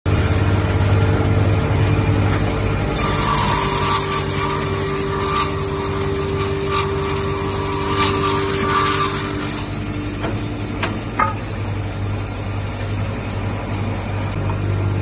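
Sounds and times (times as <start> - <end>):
high blade whine: 0.1 - 14.5
circular sawmill running: 0.1 - 15.0.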